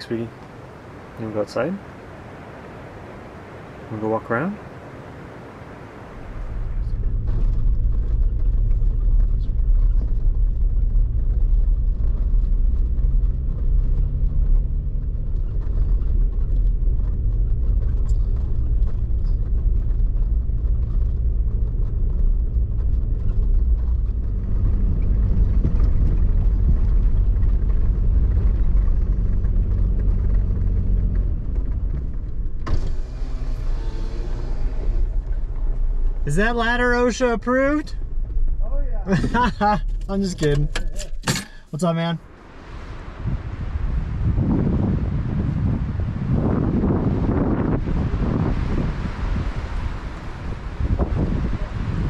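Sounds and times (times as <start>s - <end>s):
gusty wind buffeting microphone: 0.0s - 41.2s, 42.2s - 52.0s.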